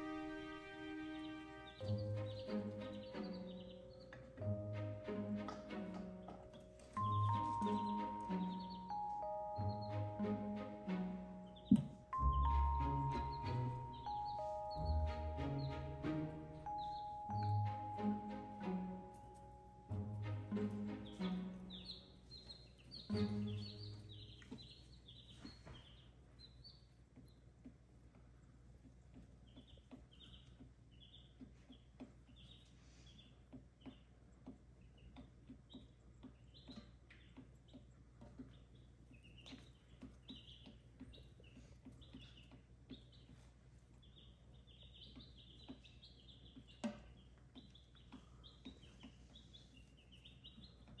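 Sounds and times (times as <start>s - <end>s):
baby chicks peeping: 0.0s - 51.0s.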